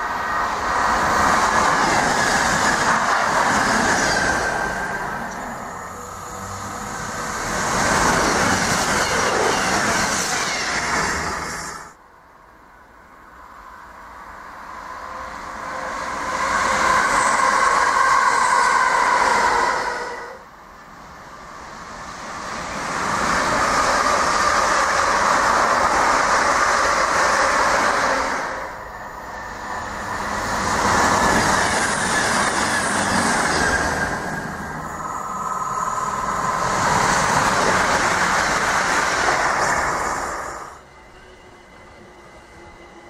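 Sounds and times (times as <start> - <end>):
train wheels and air rushing: 0.0 - 12.0, 14.2 - 43.0.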